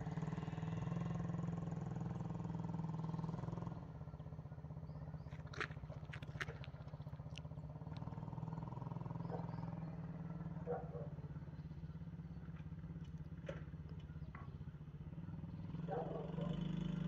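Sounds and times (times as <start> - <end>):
small engine running steadily: 0.0 - 17.0.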